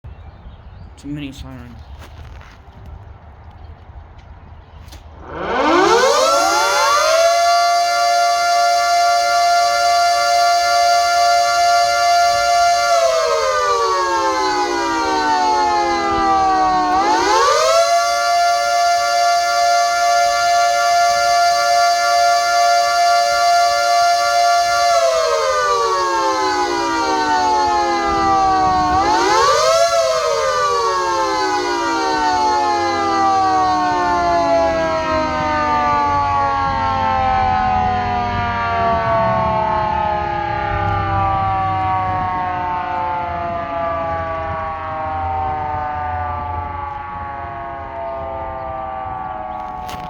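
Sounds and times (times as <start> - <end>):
mini siren wailing: 5.2 - 50.0.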